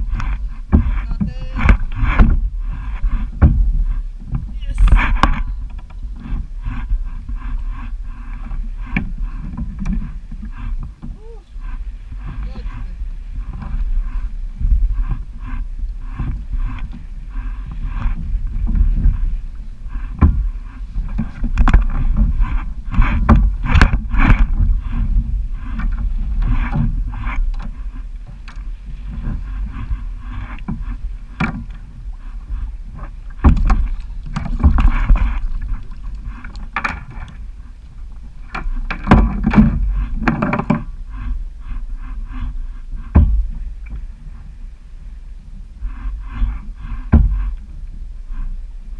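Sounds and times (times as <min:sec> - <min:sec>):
steady low rumble: 0:00.0 - 0:48.9
water splashing against kayak: 0:00.0 - 0:48.9.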